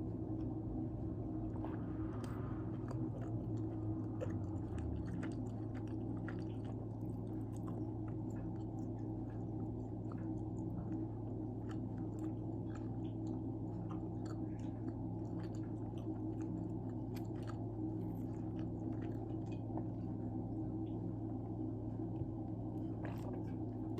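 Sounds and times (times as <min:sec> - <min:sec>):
chewing pizza: 0:00.0 - 0:23.9
low electrical hum: 0:00.0 - 0:23.9.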